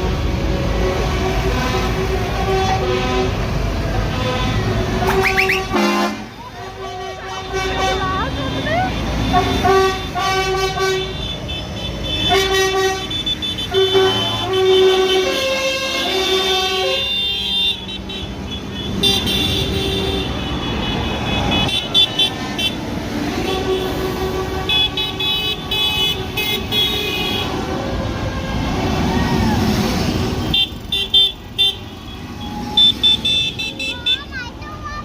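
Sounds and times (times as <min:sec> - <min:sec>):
engines rumbling: 0:00.0 - 0:35.0
vehicle horns tooting: 0:00.7 - 0:28.9, 0:30.0 - 0:34.5.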